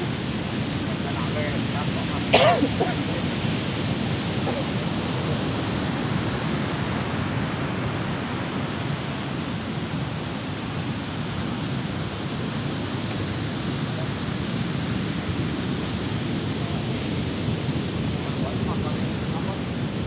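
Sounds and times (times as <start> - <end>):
ocean surf on beach: 0.0 - 20.0.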